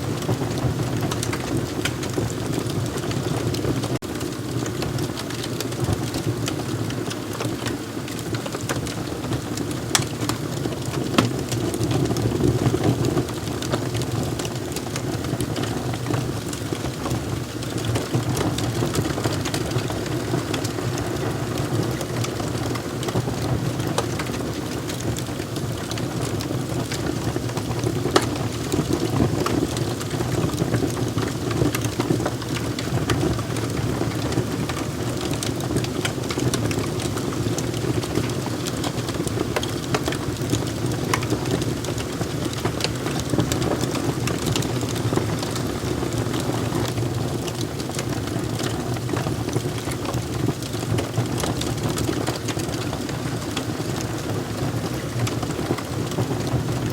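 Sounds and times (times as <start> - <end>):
wood fire crackling and popping: 0.0 - 56.9.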